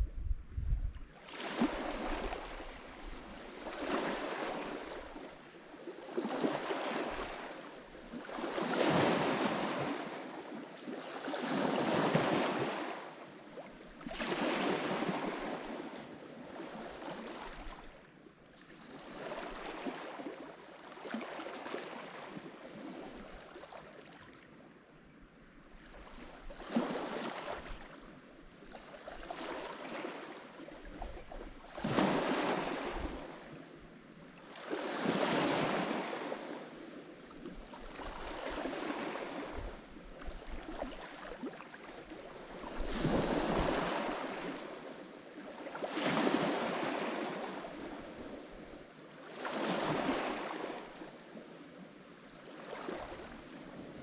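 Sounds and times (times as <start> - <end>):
waves breaking on shore: 1.0 - 18.0, 25.8 - 51.3, 52.4 - 54.0.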